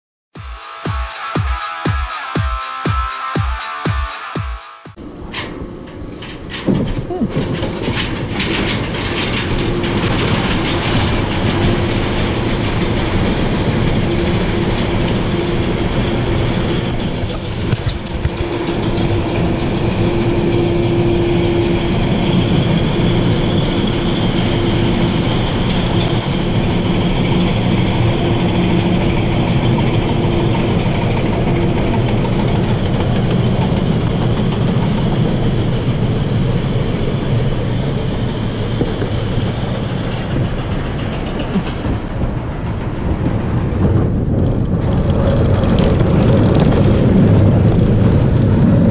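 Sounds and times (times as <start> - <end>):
roller coaster mechanical rattle: 5.0 - 48.9.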